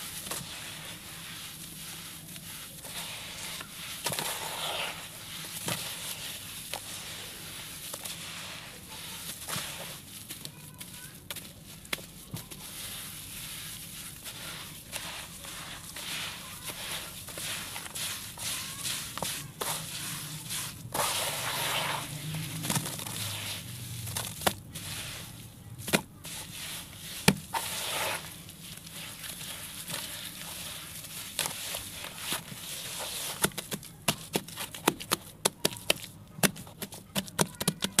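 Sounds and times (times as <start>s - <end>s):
hands kneading wet cement mix: 0.0s - 38.0s.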